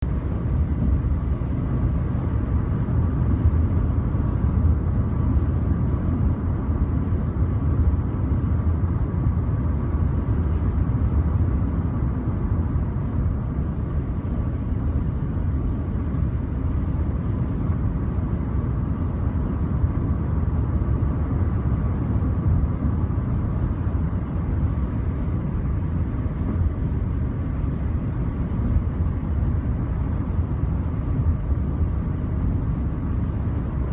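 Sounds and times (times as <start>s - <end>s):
car engine and road rumble: 0.0s - 33.9s
faint steady whine: 0.0s - 33.9s.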